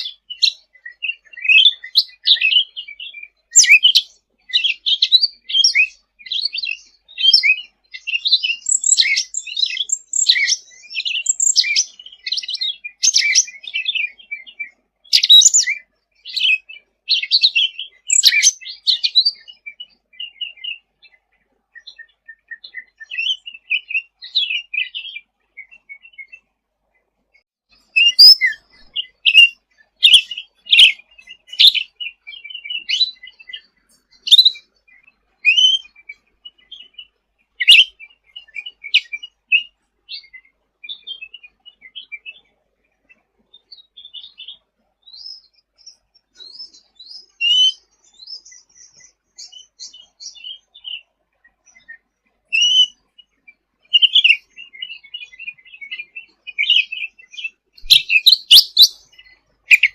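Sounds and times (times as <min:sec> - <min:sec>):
songbird chirping and trilling: 0:00.0 - 0:59.9.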